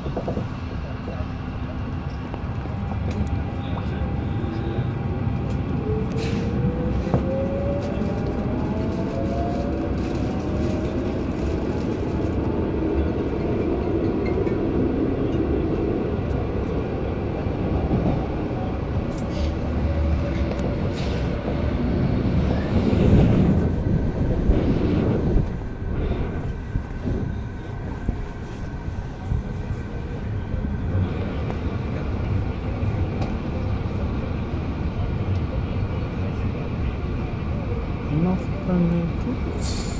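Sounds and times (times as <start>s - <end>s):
wheels rumbling on track: 0.0s - 39.9s.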